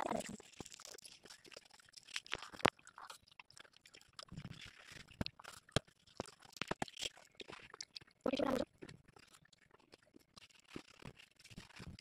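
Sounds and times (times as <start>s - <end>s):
chewing mouth smacks: 0.0s - 11.1s.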